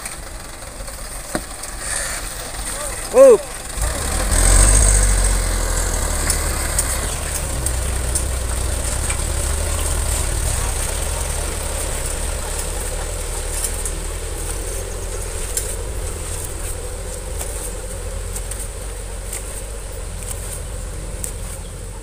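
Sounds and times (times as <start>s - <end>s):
diesel truck engine pulling away: 0.0s - 22.0s.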